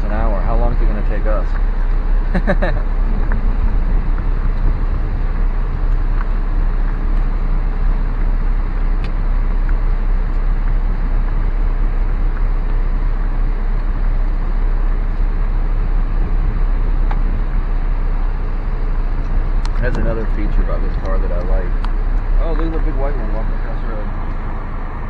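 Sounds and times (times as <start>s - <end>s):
car rumble from inside cabin: 0.0s - 25.0s.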